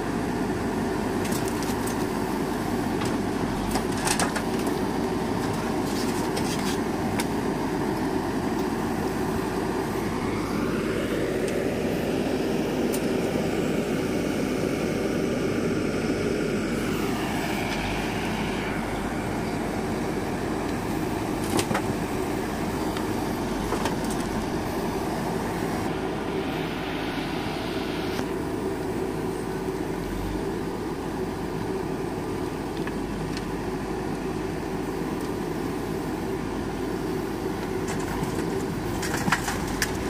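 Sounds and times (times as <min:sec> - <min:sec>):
diesel engines running: 0:00.0 - 0:40.0.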